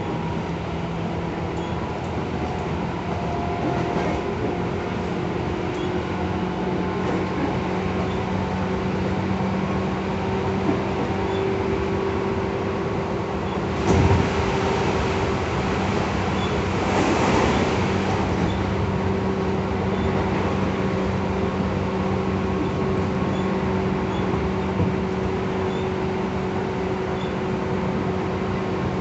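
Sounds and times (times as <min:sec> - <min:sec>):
train motor hum: 0:00.0 - 0:29.0.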